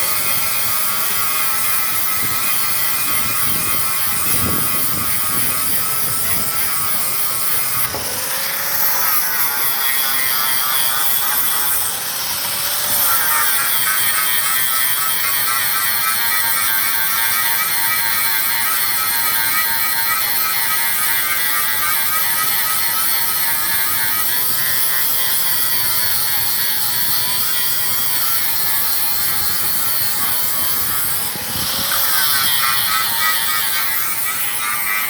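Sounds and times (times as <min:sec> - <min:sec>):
power tool motor whining: 0:00.0 - 0:35.0.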